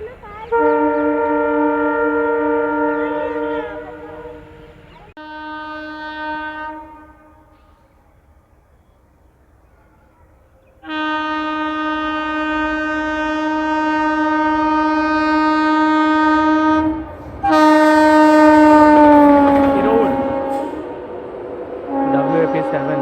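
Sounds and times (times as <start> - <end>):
locomotive horn blasts: 0.0 - 8.0, 10.8 - 23.0
rush of passing locomotive: 0.0 - 23.0.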